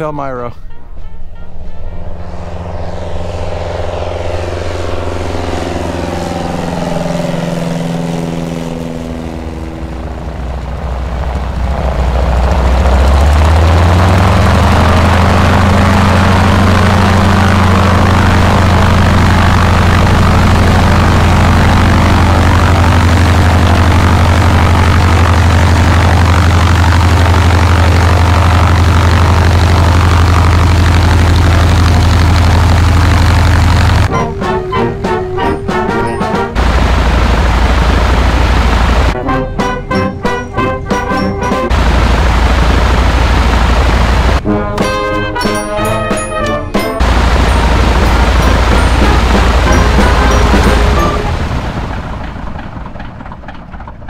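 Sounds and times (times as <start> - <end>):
propeller airplane engine droning: 0.0 - 54.0.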